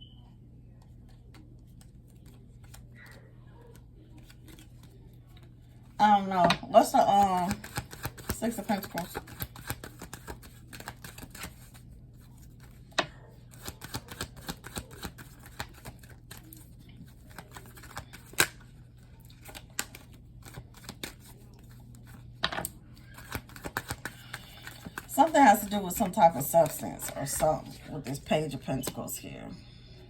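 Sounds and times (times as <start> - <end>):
low steady hum: 0.0 - 30.0
cards being shuffled: 0.8 - 5.8, 7.1 - 29.0.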